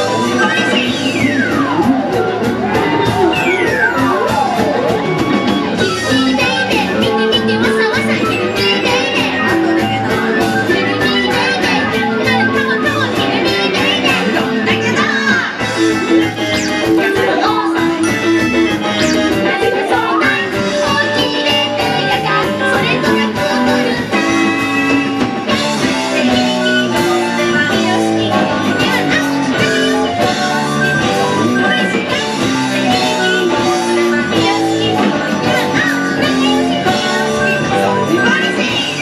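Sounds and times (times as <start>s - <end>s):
drums: 0.0s - 39.0s
electric bass: 0.0s - 39.0s
electric guitar: 0.0s - 39.0s
keyboard: 0.0s - 39.0s
woman singing: 5.8s - 24.7s, 25.5s - 39.0s.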